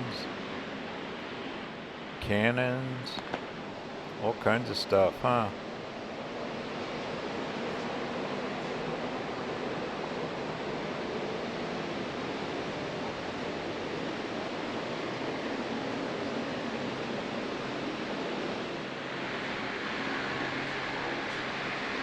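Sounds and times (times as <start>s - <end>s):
rushing background hiss: 0.0s - 22.0s.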